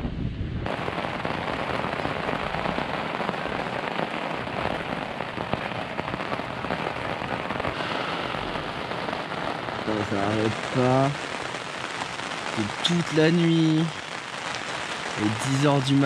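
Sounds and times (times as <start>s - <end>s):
rain on tent fabric: 0.7s - 16.0s.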